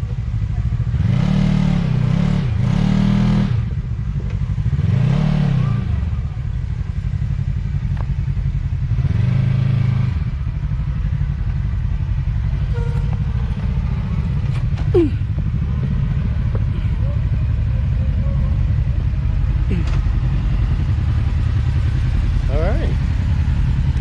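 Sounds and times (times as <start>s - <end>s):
utv engine running: 0.0s - 24.0s.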